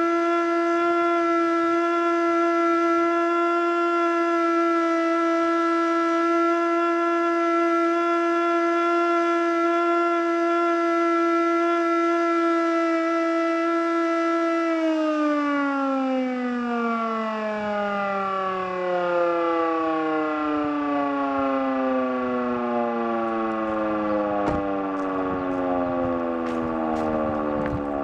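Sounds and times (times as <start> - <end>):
outdoor warning siren: 0.0 - 8.8, 10.3 - 28.0.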